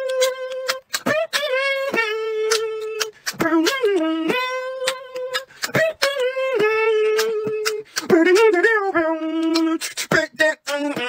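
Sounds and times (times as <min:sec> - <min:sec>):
hummed melody: 0:00.0 - 0:09.8
mouth percussion clicks: 0:00.0 - 0:11.0.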